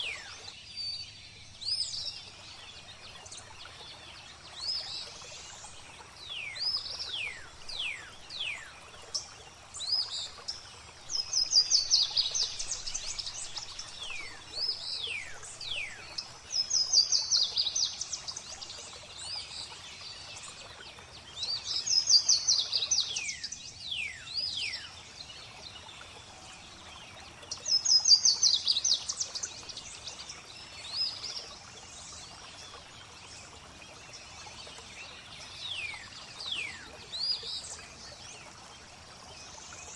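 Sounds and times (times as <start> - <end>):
gently flowing water: 0.0 - 39.9.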